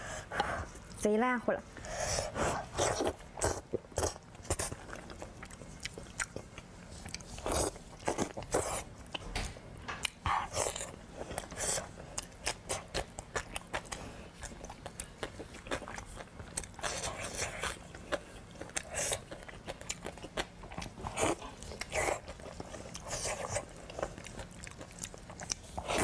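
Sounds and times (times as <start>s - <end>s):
person chewing food: 1.8s - 26.0s.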